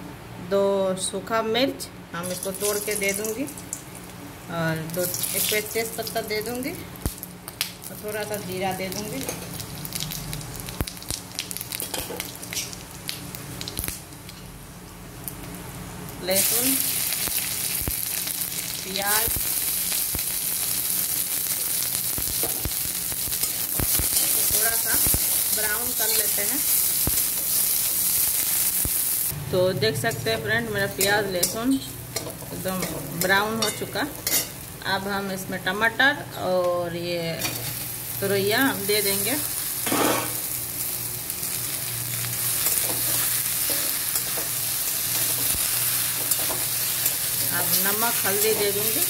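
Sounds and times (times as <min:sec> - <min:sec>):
onion and garlic sizzling in oil: 0:02.2 - 0:49.0.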